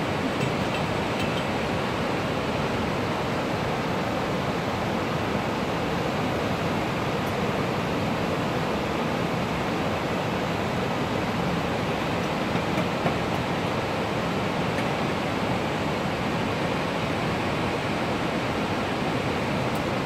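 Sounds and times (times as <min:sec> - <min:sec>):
river rushing over boulders: 0:00.0 - 0:20.0.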